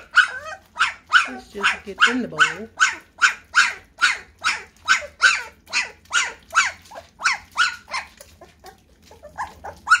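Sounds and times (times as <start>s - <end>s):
puppies yelping: 0.0s - 10.0s.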